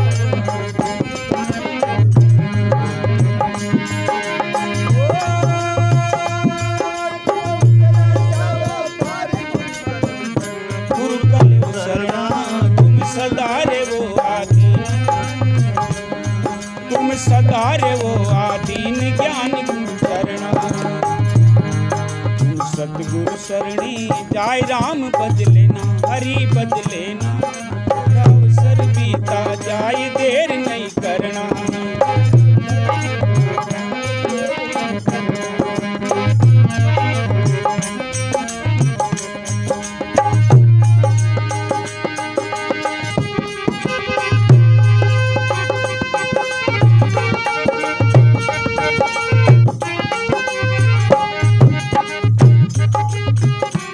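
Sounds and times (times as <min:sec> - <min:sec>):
devotional song melody: 0:00.0 - 0:53.9
hand drum beat: 0:00.0 - 0:53.9.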